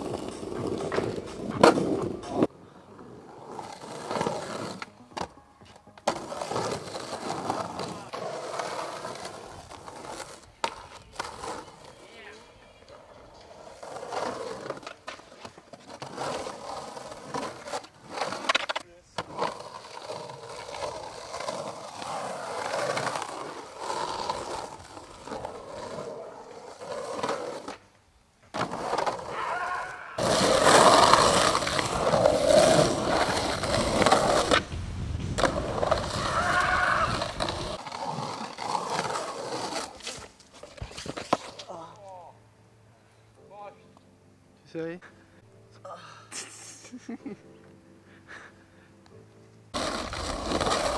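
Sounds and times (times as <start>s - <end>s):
skateboard wheels rolling on concrete: 0.0s - 44.1s, 46.3s - 50.9s.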